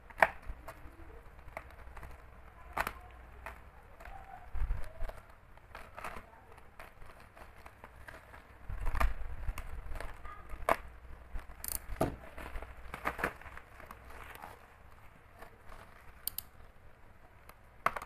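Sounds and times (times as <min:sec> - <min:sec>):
plastic crackling and tearing: 0:00.0 - 0:18.0.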